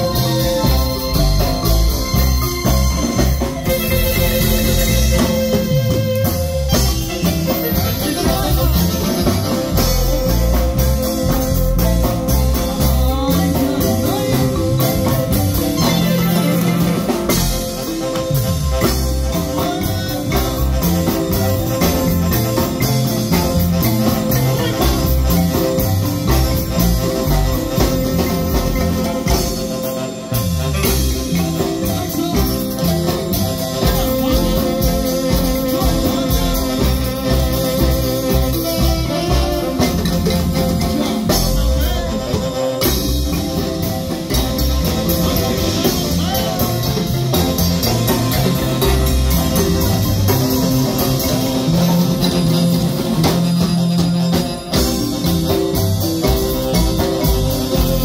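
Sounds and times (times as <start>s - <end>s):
marimba band music: 0.0s - 58.0s.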